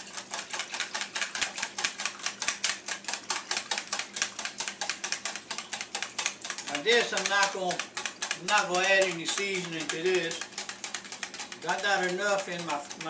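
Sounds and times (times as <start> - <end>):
fork clicking against plastic bowl: 0.3 - 13.0.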